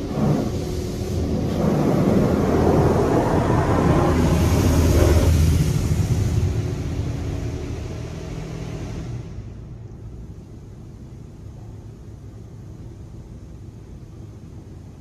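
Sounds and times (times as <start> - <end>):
low hum: 0.0 - 15.0
water jets drumming on car: 0.0 - 15.0.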